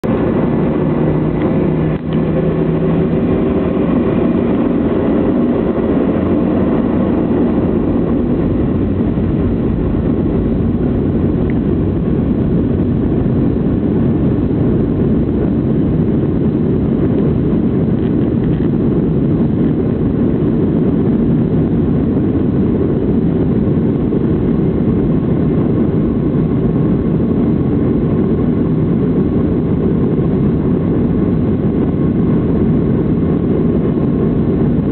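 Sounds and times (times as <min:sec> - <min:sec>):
airplane cabin jet noise: 0:00.0 - 0:34.9.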